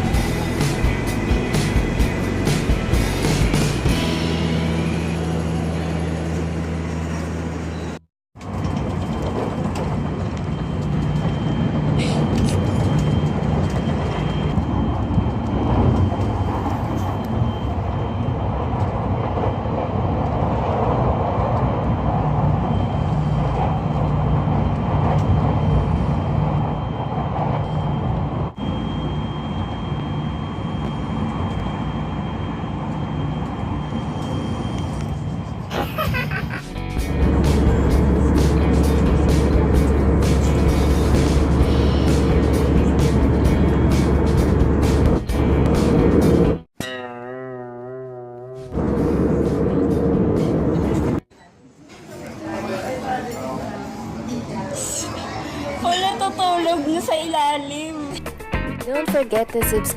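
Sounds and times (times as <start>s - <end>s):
vehicle cabin drone: 0.0s - 51.3s.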